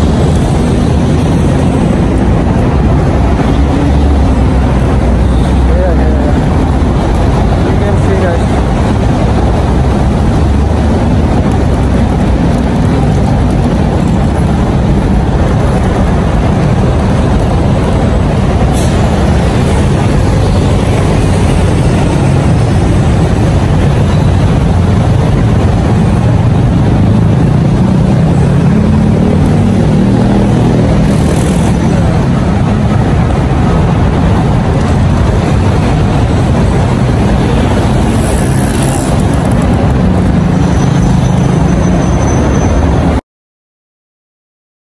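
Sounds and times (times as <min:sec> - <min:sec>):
busy street traffic rumble: 0:00.0 - 0:43.2.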